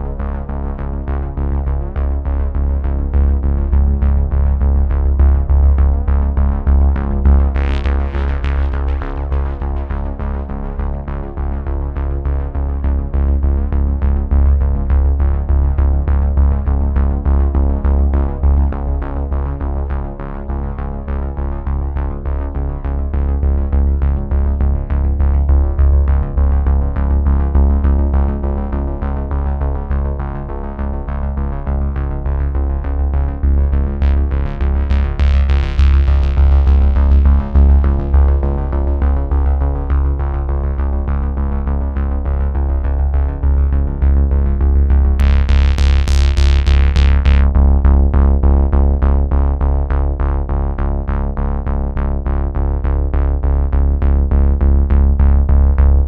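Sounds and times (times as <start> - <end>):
heavy bass: 0.0 - 56.0.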